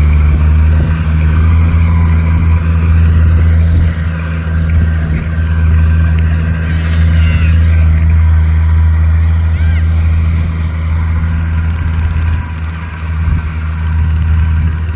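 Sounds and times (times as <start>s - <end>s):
engine humming steadily: 0.0s - 14.9s.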